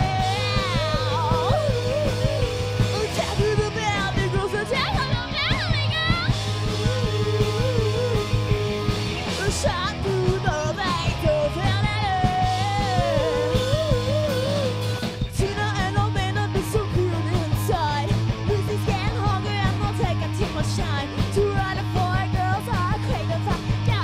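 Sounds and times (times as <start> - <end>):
person singing: 0.0 - 5.0, 6.6 - 24.0
live rock band playing: 0.0 - 24.0.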